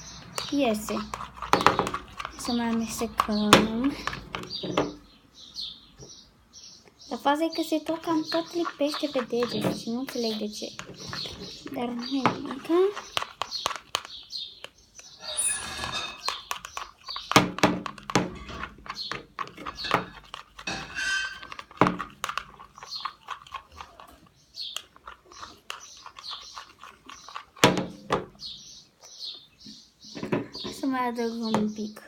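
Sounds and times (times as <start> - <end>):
hands working wet slime: 0.0 - 5.0, 7.1 - 15.3, 15.9 - 28.6.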